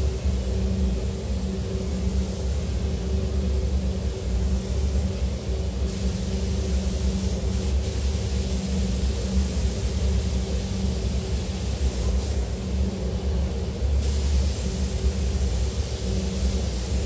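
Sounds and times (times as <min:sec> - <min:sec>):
ventilation humming: 0:00.0 - 0:17.0.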